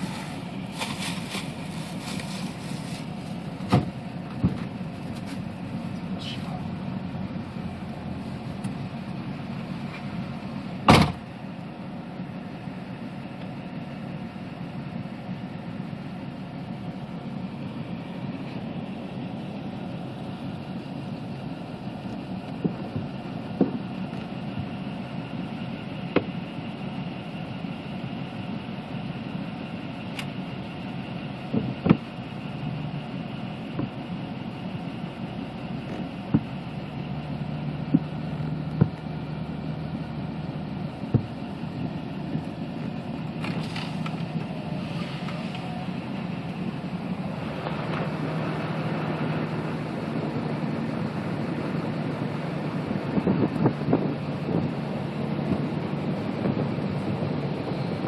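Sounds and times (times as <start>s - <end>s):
car rumbling: 0.0s - 58.0s
wind: 0.0s - 58.0s.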